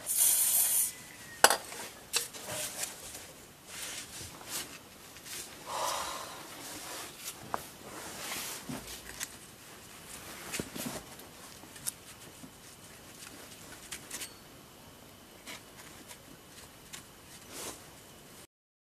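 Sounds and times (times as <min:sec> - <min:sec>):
low steady hiss: 0:00.0 - 0:18.5.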